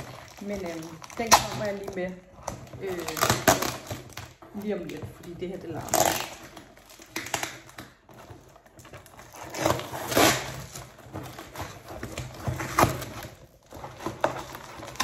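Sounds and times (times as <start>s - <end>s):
cardboard and tape ripping: 0.0s - 15.0s.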